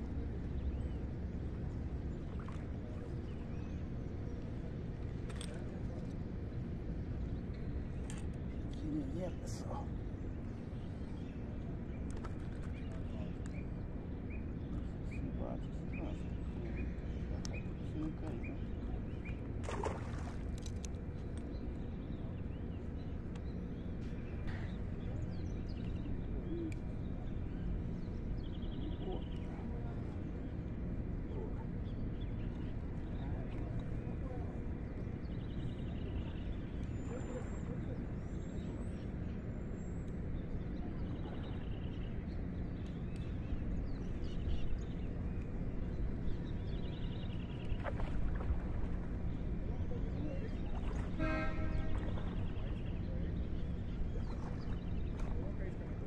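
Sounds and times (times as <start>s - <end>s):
steady low rumble: 0.0s - 56.0s
birds chirping in trills: 6.4s - 56.0s.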